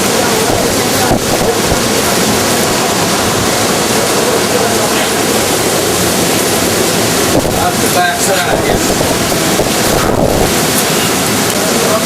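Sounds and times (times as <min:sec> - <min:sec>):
hurricane wind and water rushing: 0:00.0 - 0:12.0.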